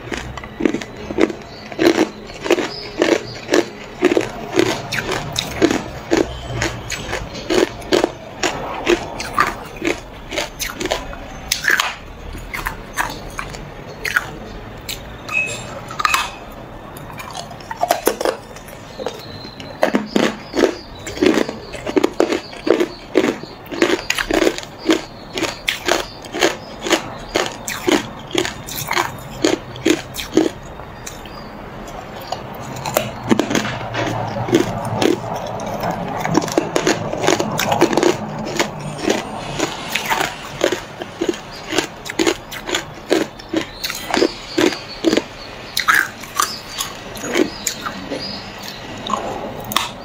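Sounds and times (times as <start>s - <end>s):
ice cubes crunching between teeth: 0.0s - 15.0s, 17.0s - 50.0s.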